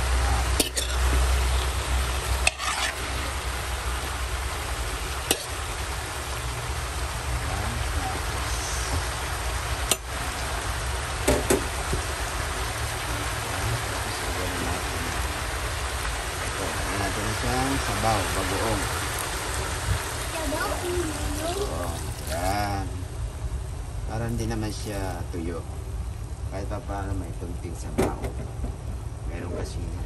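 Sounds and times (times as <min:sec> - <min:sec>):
vegetables sizzling in a wok: 0:00.0 - 0:27.4.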